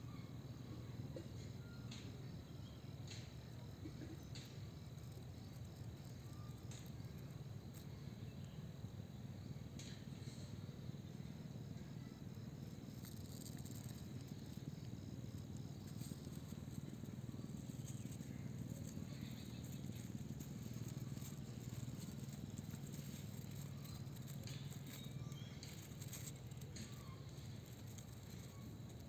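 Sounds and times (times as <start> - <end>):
insect chirping: 0.0 - 29.0.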